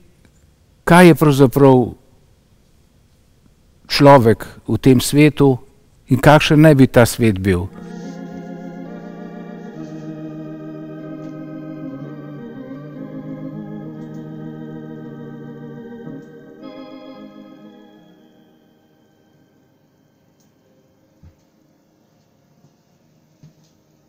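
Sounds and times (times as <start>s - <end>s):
slow organ chords: 4.1s - 24.0s.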